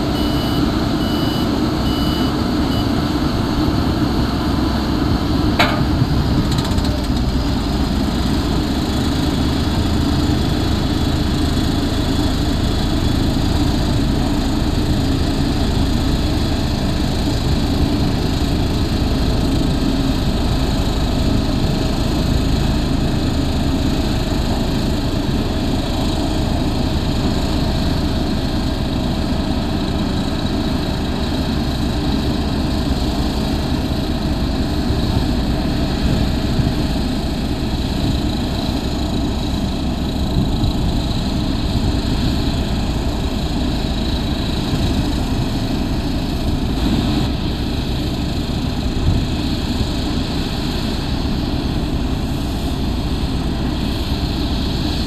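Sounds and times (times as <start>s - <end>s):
roller diesel engine running: 0.0s - 55.0s.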